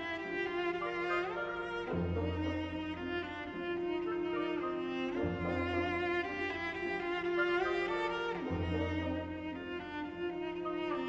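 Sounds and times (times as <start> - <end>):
cello bowed notes: 0.0 - 11.0
orchestral strings: 0.0 - 11.0.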